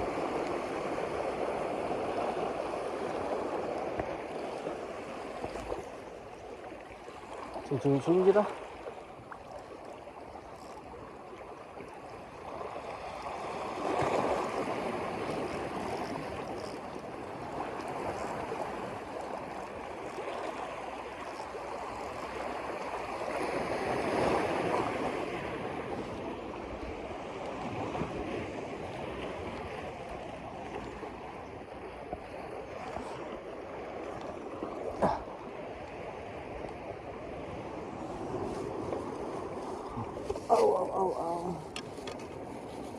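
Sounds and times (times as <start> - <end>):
water washing and lapping: 0.0 - 42.9.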